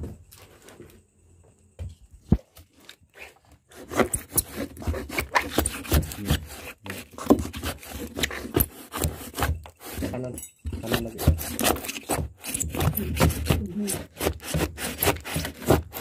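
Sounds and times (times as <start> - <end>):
metal bar scraping wood: 2.8 - 16.0.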